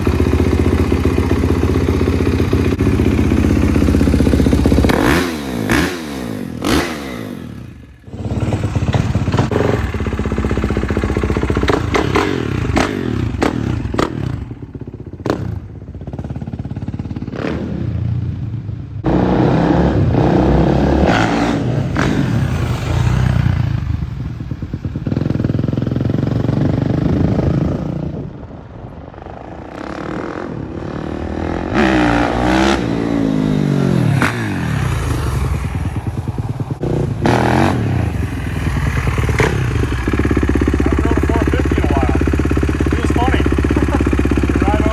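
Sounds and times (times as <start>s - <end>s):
dirt bike engine revving: 0.0s - 18.2s, 19.0s - 24.0s, 29.8s - 44.9s.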